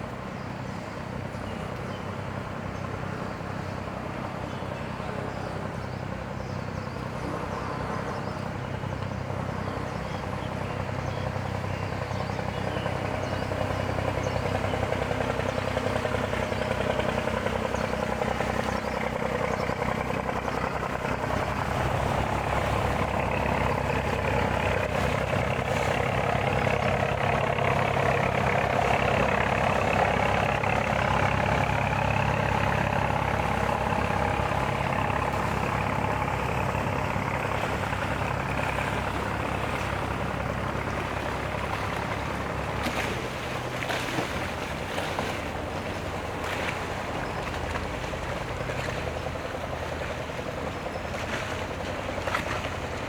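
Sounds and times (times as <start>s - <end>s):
heavy engine idling: 0.0s - 53.0s.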